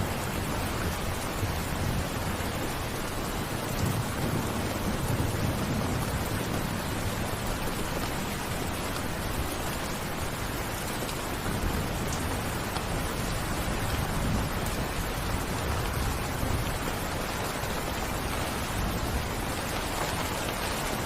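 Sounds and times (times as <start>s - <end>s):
heavy rainfall: 0.0s - 21.0s.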